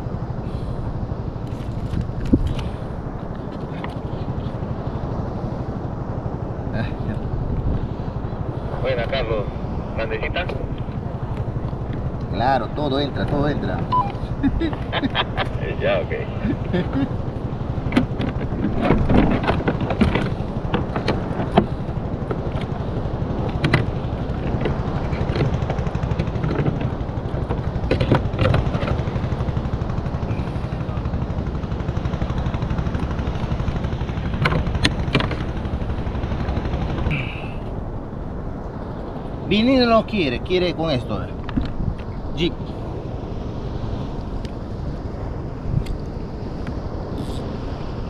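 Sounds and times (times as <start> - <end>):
wind rumble on microphone: 0.0 - 48.0.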